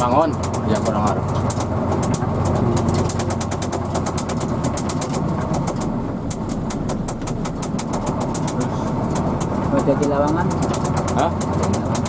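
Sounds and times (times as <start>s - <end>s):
bus engine and road noise: 0.0s - 12.0s
ticking rattle: 0.0s - 12.0s.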